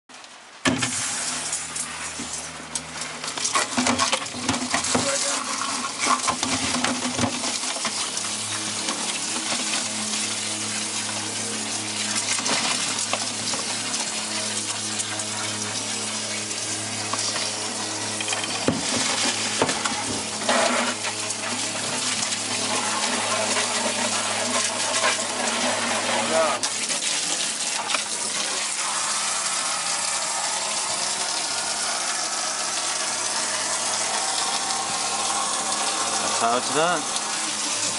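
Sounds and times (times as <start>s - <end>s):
water poured between buckets: 0.7s - 37.9s
water splashing and running: 0.7s - 37.9s.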